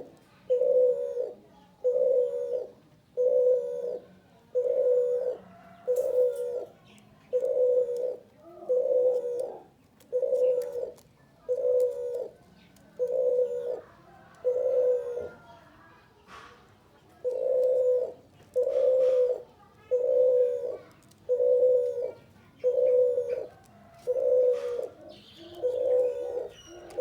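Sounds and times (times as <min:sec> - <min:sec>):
dove cooing: 0:00.0 - 0:16.4, 0:17.0 - 0:27.0
small birds chirping: 0:00.0 - 0:27.0.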